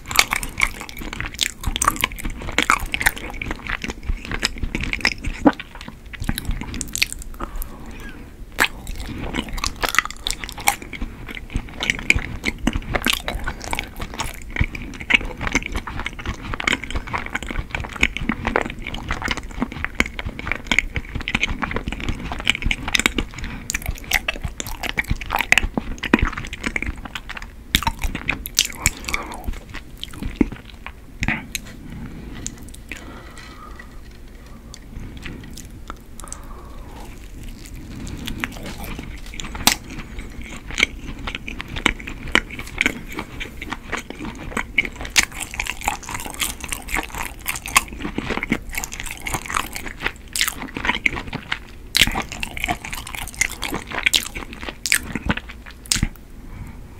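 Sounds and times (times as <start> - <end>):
person chewing with sticky smacks: 0.0 - 56.3.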